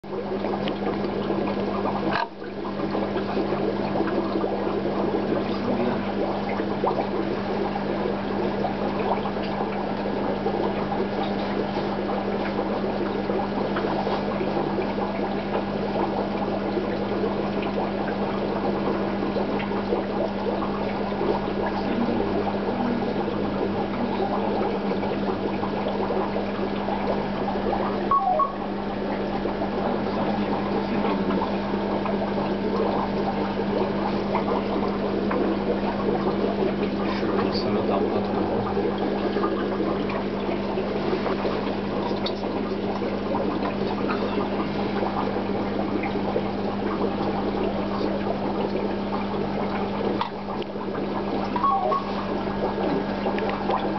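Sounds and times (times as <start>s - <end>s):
aquarium filter bubbling: 0.0s - 53.9s
steady low hum: 0.1s - 53.9s.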